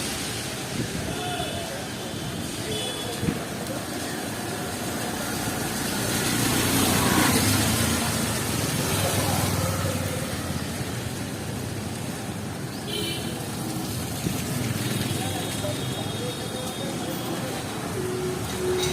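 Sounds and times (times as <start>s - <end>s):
rain on wet road: 0.0s - 18.9s.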